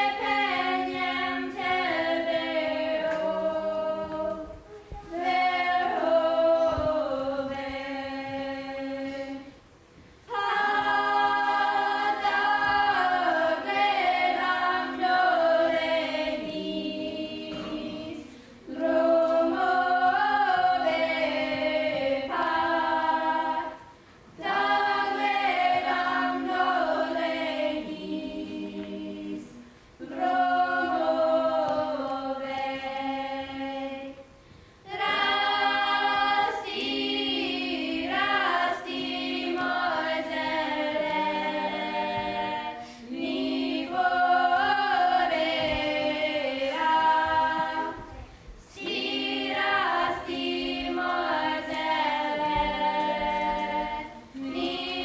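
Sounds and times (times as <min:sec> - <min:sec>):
girls singing unaccompanied: 0:00.0 - 0:55.0.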